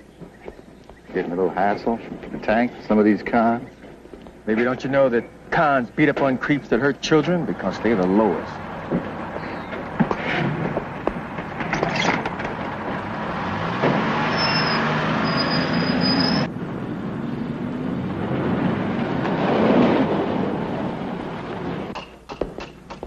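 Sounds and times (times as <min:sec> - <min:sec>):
vehicles driving past: 0:00.0 - 0:23.0.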